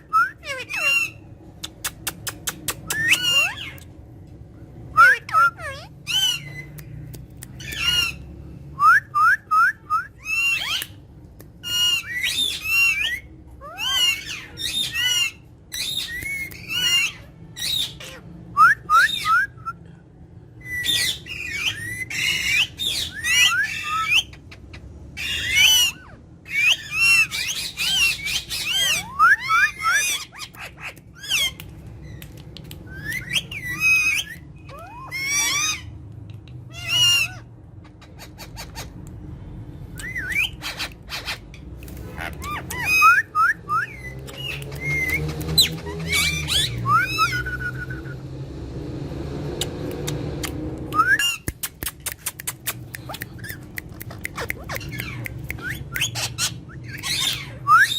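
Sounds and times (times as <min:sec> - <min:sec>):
parrots squawking and whistling: 0:00.0 - 0:39.2, 0:39.9 - 0:48.5, 0:49.3 - 0:57.9.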